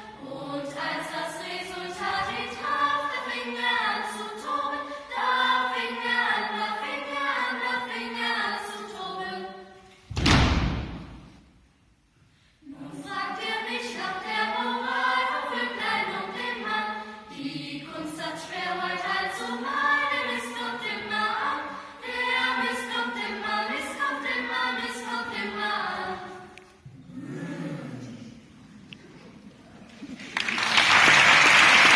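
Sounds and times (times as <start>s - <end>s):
youth choir singing: 0.0s - 9.8s, 12.6s - 28.4s.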